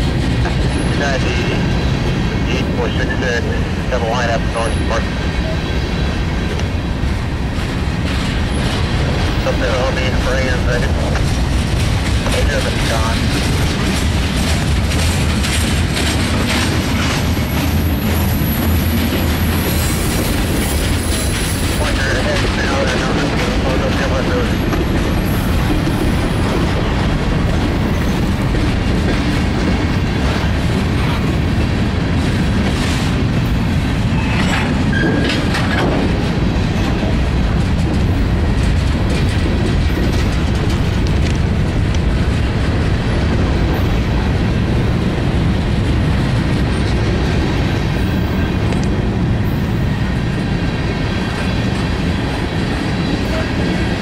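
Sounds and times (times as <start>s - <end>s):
steel train wheels rumbling: 0.0s - 54.0s
wheels clacking over rail joints: 6.0s - 54.0s.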